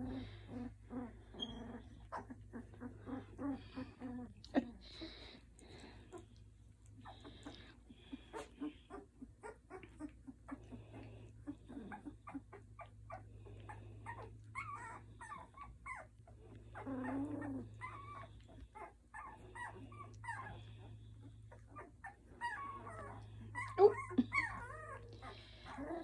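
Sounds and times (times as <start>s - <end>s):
puppies whimpering: 0.0s - 26.0s.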